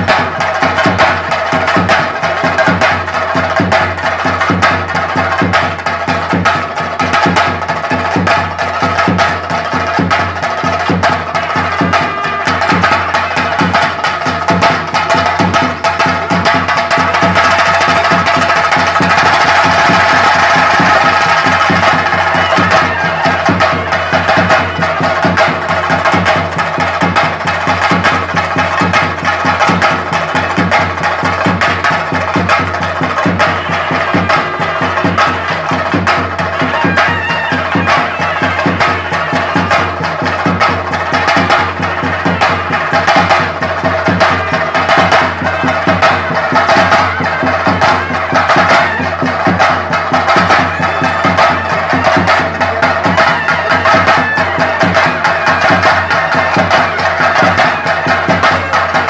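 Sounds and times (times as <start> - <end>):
drums played with sticks: 0.0 - 59.0.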